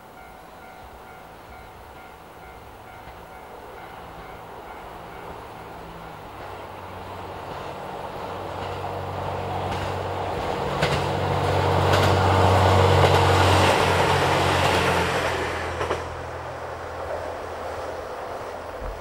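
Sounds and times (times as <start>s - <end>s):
railcar engine hum: 0.0s - 19.0s
train wheel noise: 0.0s - 19.0s
wheels clacking on rail joints: 1.5s - 19.0s.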